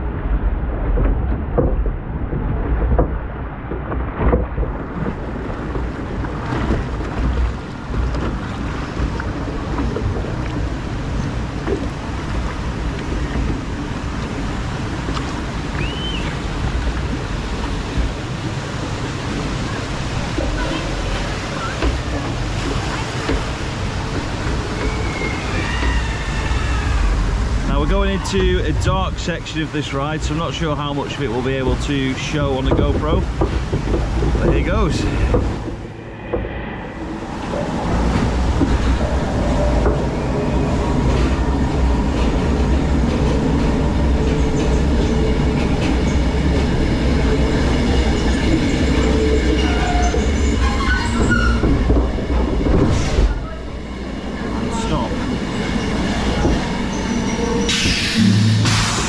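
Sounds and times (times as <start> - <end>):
ride machinery rumbling and clattering: 0.0 - 59.0
rushing water: 0.0 - 59.0.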